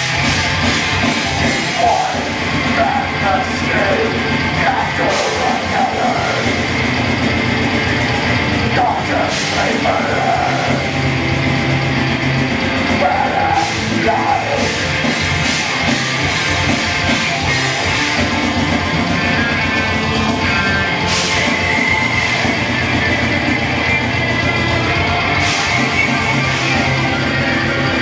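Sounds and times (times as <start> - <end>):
live heavy rock band: 0.0 - 28.0.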